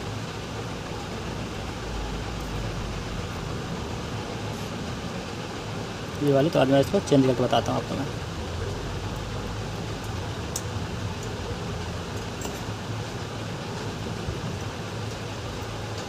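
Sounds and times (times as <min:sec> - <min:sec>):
low background hum and hiss: 0:00.0 - 0:16.0.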